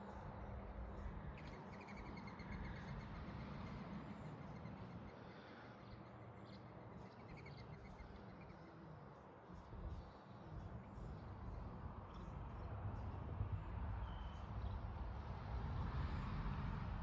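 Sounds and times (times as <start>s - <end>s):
small birds chirping: 0.0s - 15.4s.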